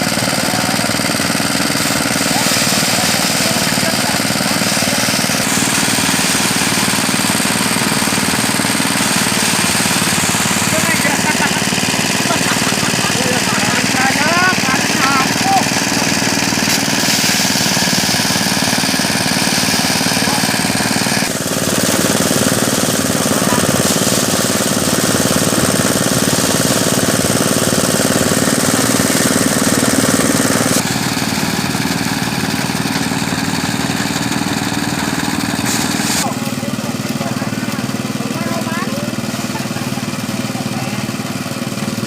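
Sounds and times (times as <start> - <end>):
rice threshing machine running: 0.0 - 42.0.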